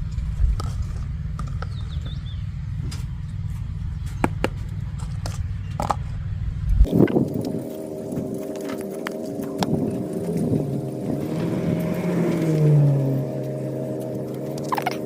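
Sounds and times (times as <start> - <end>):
wind buffeting microphone: 0.0 - 13.3
droning hum with pitched tones: 0.0 - 15.0.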